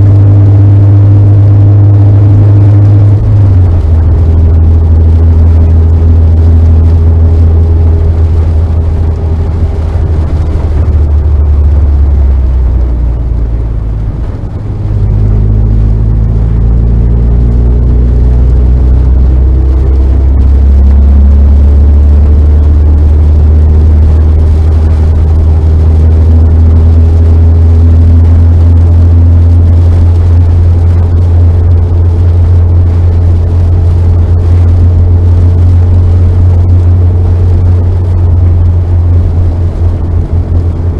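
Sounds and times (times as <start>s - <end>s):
car engine inside cabin: 0.0s - 40.9s.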